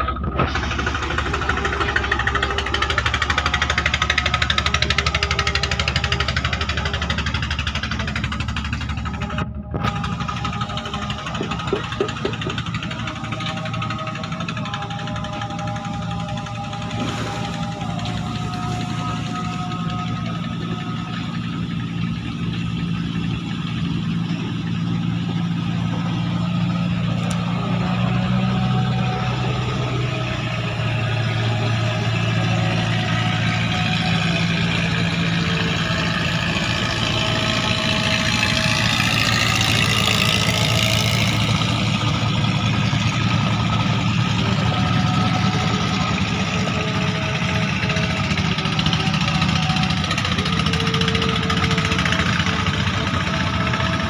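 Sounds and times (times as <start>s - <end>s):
motorboat engine running: 0.0s - 54.0s.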